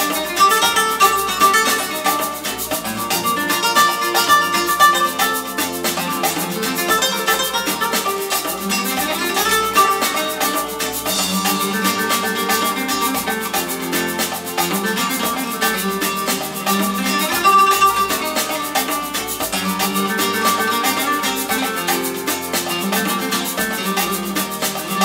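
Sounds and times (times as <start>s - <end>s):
music with drum beat and melody: 0.0s - 25.0s.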